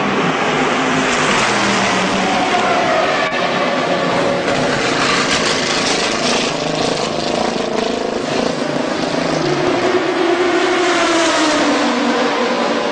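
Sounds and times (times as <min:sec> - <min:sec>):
race car engine: 0:00.0 - 0:12.9.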